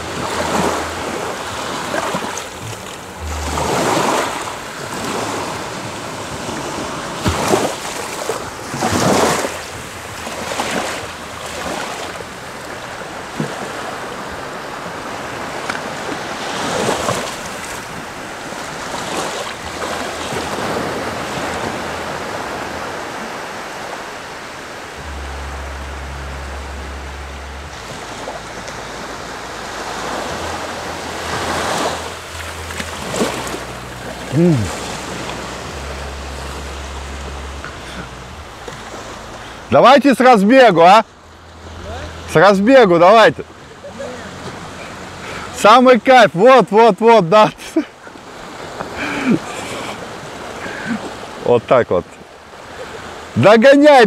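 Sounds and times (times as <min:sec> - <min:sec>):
sea waves washing up a beach: 0:00.0 - 0:54.0.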